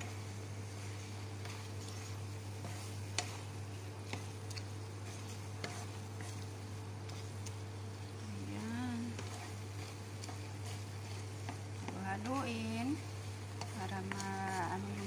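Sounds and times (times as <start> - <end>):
steady low hum: 0.0 - 15.0
wooden spatula stirring in pan: 0.0 - 15.0.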